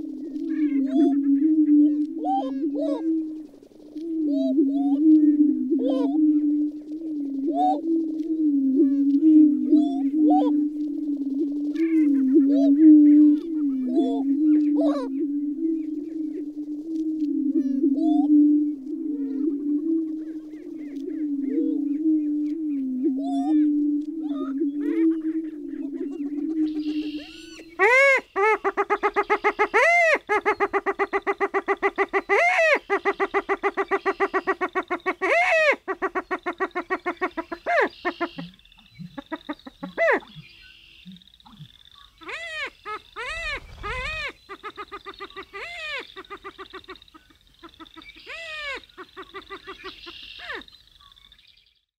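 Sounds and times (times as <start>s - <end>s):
prairie chickens calling: 0.0s - 51.8s.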